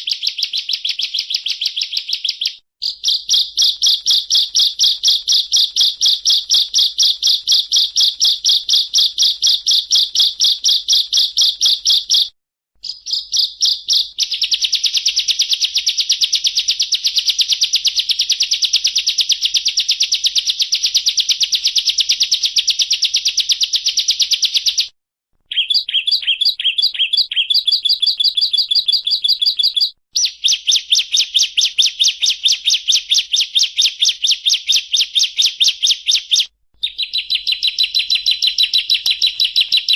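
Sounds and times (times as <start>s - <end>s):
bird singing a fast trill: 0.0s - 24.9s, 25.5s - 39.9s.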